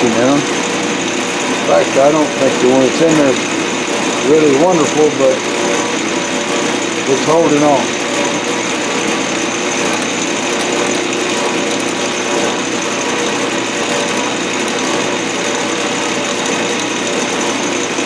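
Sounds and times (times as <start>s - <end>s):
lathe motor whining and humming: 0.0s - 18.0s.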